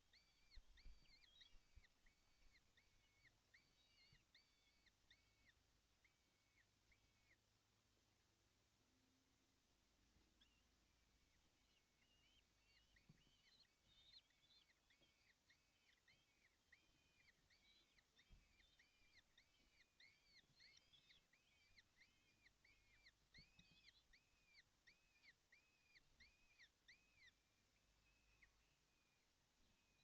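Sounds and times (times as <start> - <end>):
nestlings begging calls: 0.1 - 7.4, 11.2 - 30.0.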